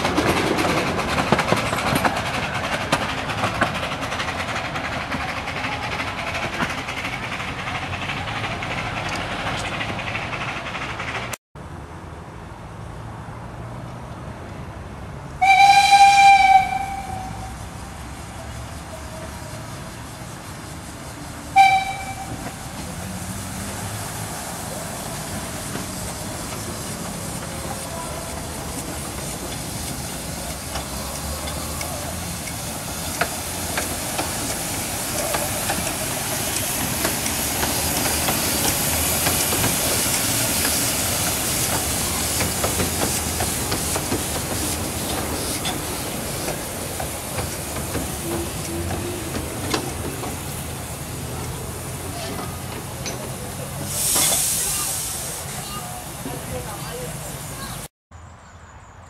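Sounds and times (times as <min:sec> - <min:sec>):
steam locomotive hissing steam: 0:00.0 - 0:11.4, 0:15.4 - 0:57.9
train running on rails: 0:00.0 - 0:57.9.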